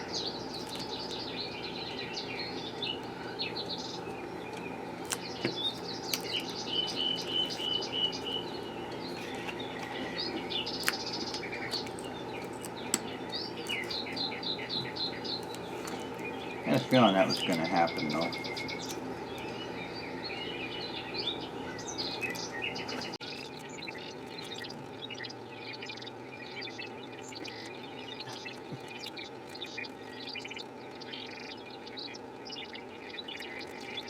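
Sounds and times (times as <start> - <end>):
small birds chirping: 0.0 - 34.0
steady low hum: 0.0 - 34.0.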